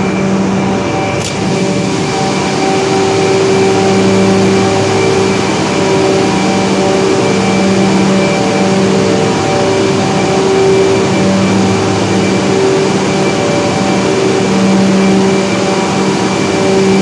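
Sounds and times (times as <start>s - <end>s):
generators droning: 0.0s - 17.0s.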